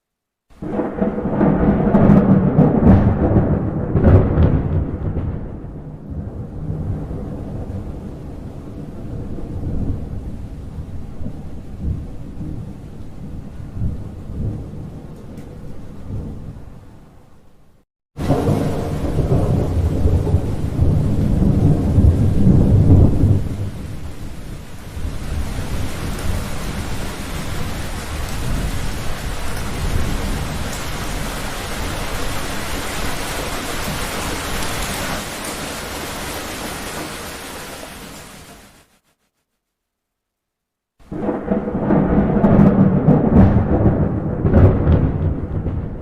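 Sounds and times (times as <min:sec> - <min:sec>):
heavy rain: 0:00.5 - 0:17.1, 0:18.2 - 0:39.2, 0:41.0 - 0:46.0
thunder rumbling: 0:00.6 - 0:17.1, 0:18.2 - 0:38.6, 0:41.0 - 0:46.0.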